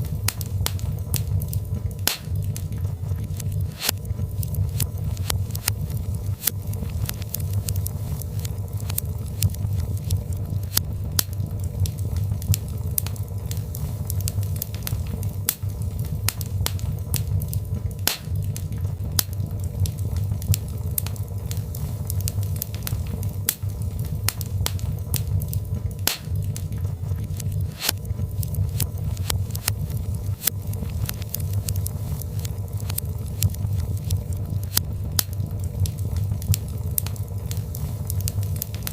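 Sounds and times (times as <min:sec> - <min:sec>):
logs burning with sharp pops: 0:00.0 - 0:38.9.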